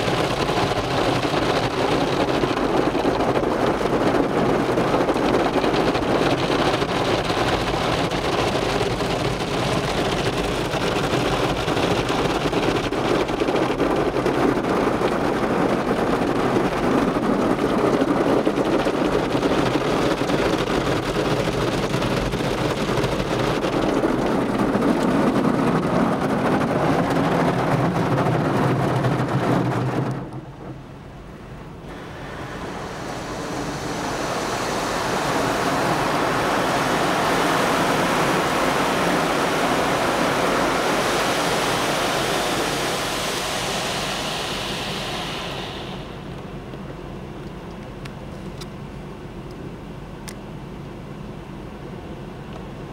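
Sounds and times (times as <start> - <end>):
water spraying: 0.0 - 29.4, 31.8 - 46.7.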